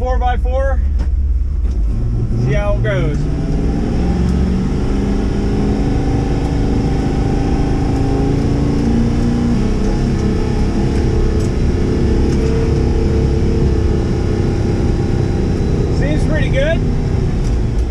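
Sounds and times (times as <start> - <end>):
truck engine under load: 0.8 - 17.9.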